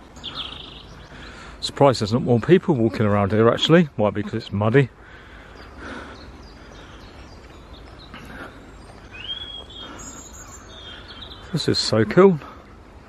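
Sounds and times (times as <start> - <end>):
woodland birdsong: 0.0 - 13.0.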